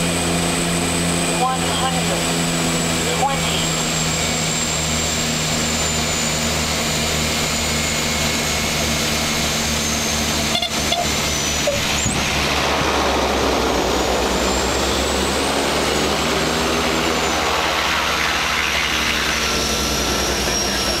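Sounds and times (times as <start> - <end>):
turboprop engines running: 0.0 - 21.0.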